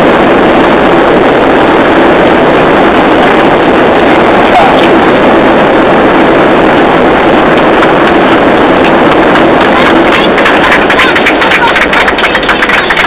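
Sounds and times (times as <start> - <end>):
aircraft cabin engine rush: 0.0 - 13.0.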